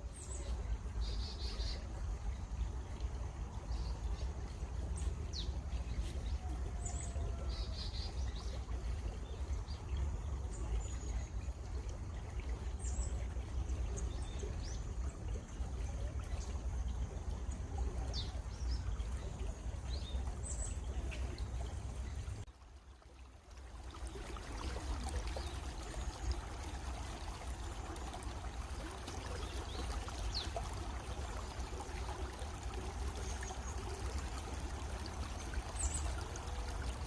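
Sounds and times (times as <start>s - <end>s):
stream water running: 0.0s - 37.0s.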